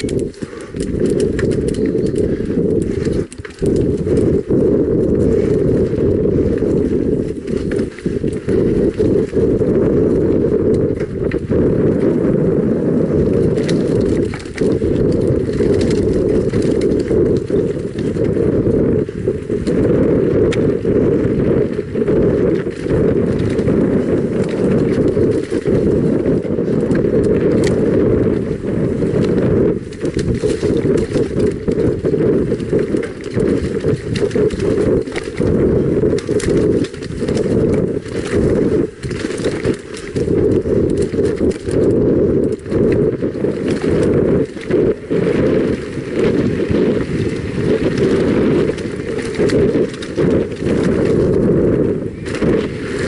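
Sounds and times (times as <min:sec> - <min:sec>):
bike rattling over bumps: 0:00.0 - 0:53.0
wind rumble on microphone: 0:00.0 - 0:53.0.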